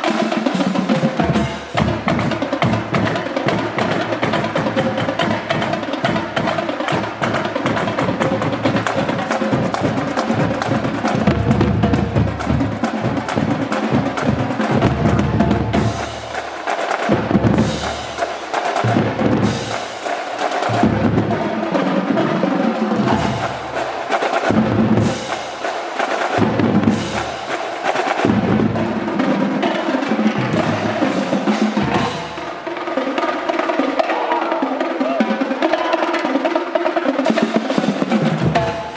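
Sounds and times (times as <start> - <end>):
marching band playing: 0.0 - 38.9
snare drum rolls: 0.0 - 38.9.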